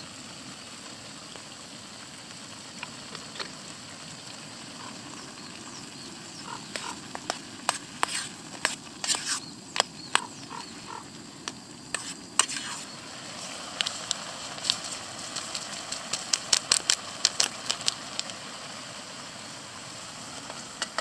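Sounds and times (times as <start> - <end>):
food sizzling: 0.0 - 21.0.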